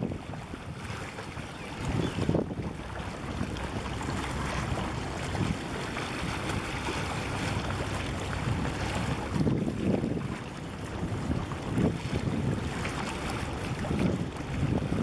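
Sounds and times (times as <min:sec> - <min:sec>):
harbour water washing: 0:00.0 - 0:15.0
wind: 0:00.0 - 0:15.0
wind buffeting microphone: 0:00.0 - 0:15.0.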